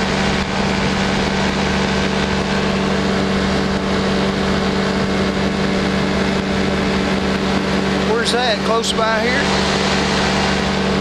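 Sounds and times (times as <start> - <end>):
engine and propeller running: 0.0 - 11.0.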